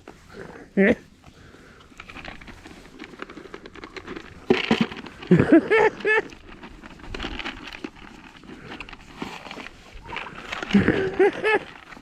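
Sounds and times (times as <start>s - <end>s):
clicking and rustling from feeding: 1.2s - 12.0s.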